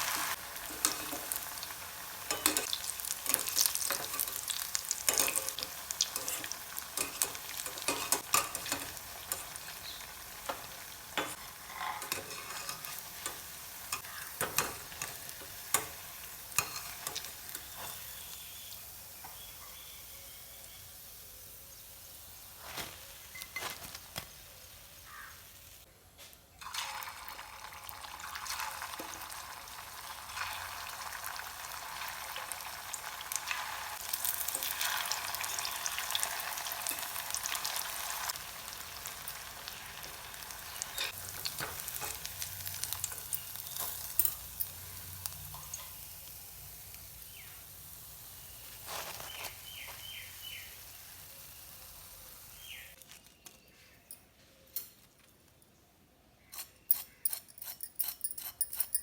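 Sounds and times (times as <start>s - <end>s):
patties sizzling in hot oil: 0.0s - 25.9s, 26.6s - 53.2s.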